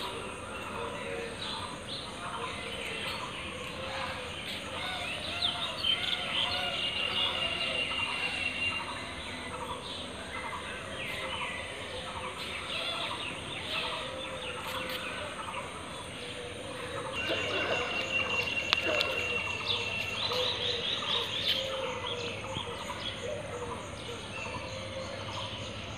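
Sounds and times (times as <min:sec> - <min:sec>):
small birds chirping: 0:00.0 - 0:25.9
steady background noise: 0:00.0 - 0:25.9.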